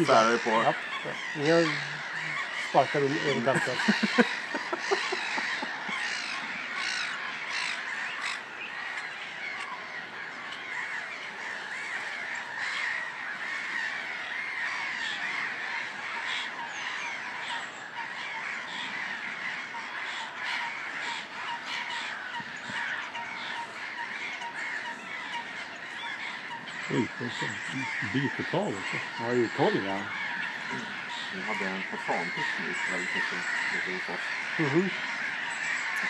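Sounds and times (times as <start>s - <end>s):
many birds calling: 0.0s - 36.0s.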